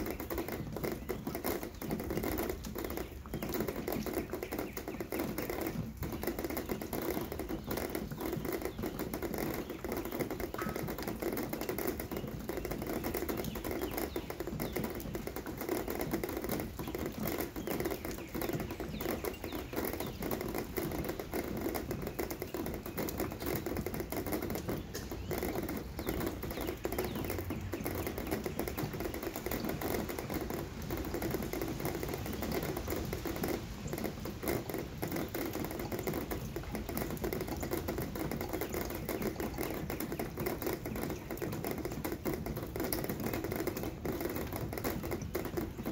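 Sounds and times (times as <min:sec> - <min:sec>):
rain drops on hard surface: 0:00.0 - 0:45.9.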